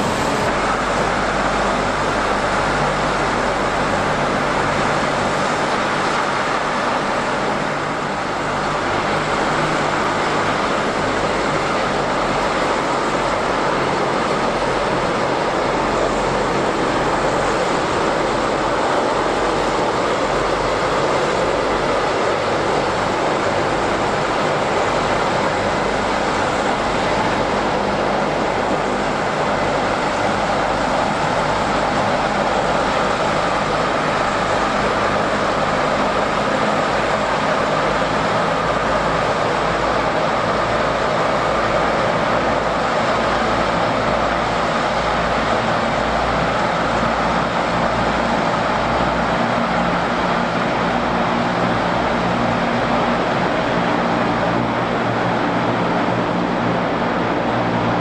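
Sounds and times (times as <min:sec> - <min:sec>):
hovercraft rushing drone: 0:00.0 - 0:58.0.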